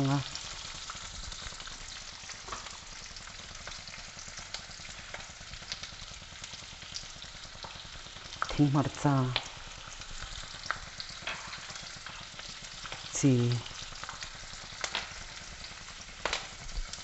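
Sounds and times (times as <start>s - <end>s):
vegetables sizzling in oil: 0.0s - 17.0s
small pops and crackles: 0.1s - 17.0s.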